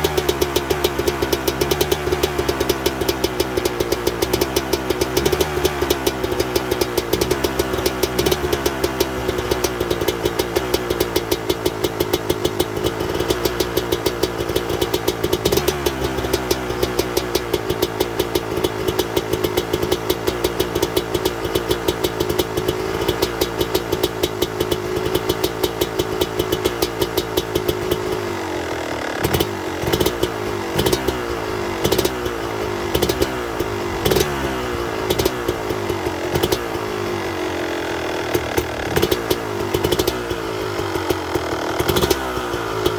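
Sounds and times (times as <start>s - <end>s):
engine popping unevenly: 0.0s - 42.9s
two-stroke engine fast idle: 0.0s - 42.9s.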